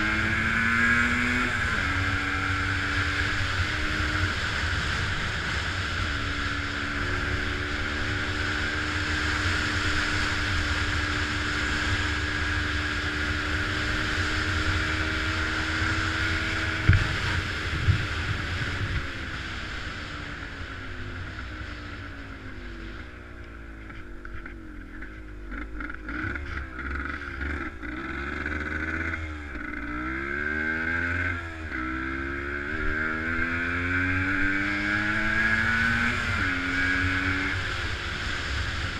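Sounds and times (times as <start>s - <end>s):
vehicle engine revving: 0.0s - 20.6s, 25.4s - 38.9s.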